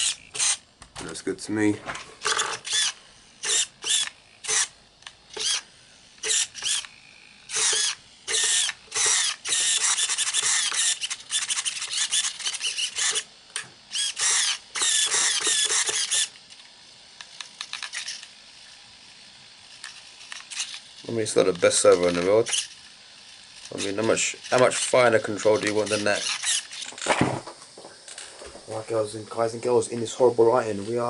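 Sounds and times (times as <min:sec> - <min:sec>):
servo whirring: 0:00.0 - 0:01.2, 0:01.8 - 0:29.1.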